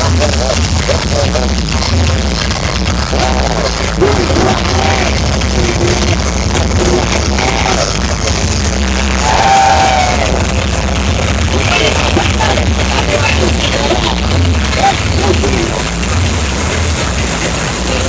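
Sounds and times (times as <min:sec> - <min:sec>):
loud electronic dance music: 0:00.0 - 0:18.0.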